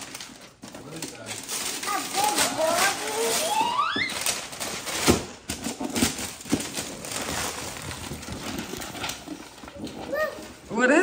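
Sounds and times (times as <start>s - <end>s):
wrapping paper tearing: 0.0s - 10.7s.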